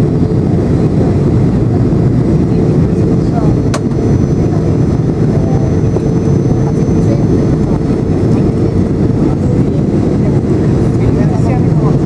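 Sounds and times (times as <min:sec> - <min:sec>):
jet engine rumble in cabin: 0:00.0 - 0:12.0
rushing air: 0:00.0 - 0:12.0.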